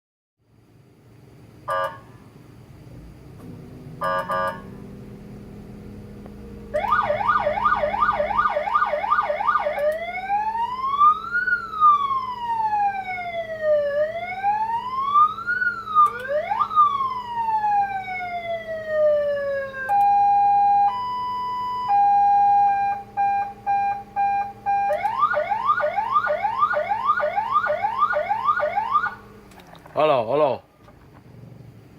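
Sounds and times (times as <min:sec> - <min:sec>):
steady low hum: 0:00.4 - 0:31.9
electronic car siren: 0:03.4 - 0:29.5.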